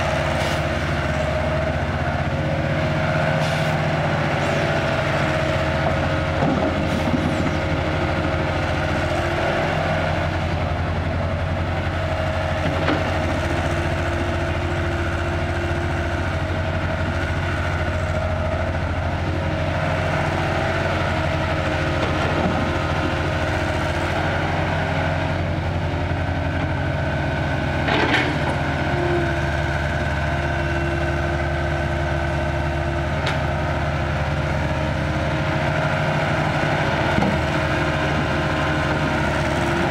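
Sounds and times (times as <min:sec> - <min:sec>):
excavator diesel engine whining: 0:00.0 - 0:39.9.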